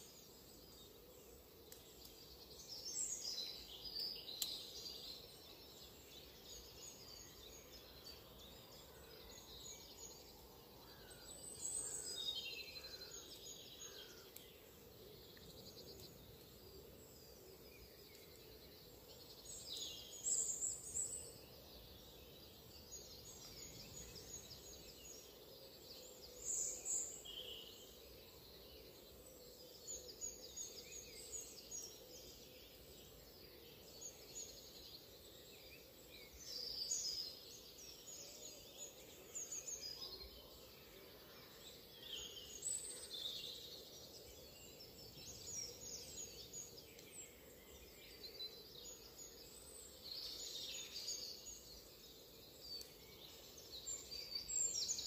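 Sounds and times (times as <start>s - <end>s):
birds chirping: 0.0s - 55.0s
low outdoor background noise: 0.0s - 55.0s.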